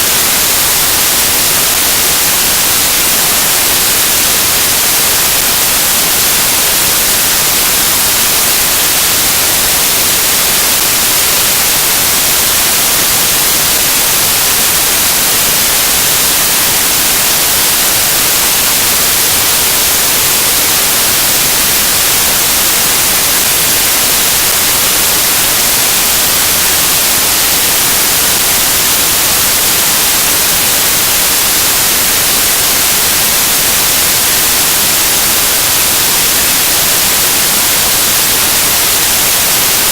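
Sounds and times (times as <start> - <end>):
loud static hiss: 0.0 - 39.9.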